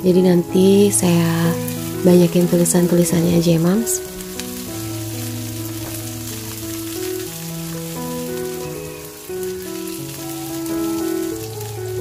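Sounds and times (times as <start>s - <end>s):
background music of held notes: 0.0s - 12.0s
vegetables sizzling in oil: 0.1s - 12.0s.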